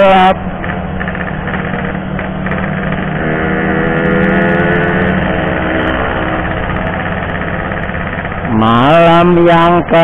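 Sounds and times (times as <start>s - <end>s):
two-stroke motorcycle engine: 0.0s - 10.0s.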